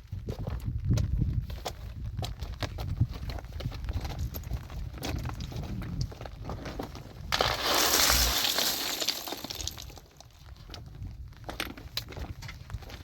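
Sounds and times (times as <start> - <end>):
stones tumbling and crunching: 0.1 - 13.0.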